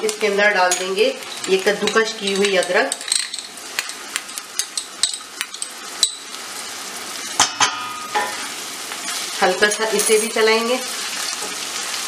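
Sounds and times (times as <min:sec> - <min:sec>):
onions sizzling and popping: 0:00.0 - 0:12.0.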